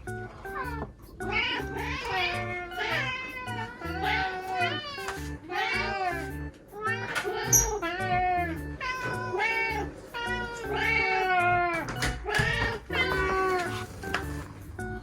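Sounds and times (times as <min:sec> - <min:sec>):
cats meowing: 0:00.3 - 0:14.2.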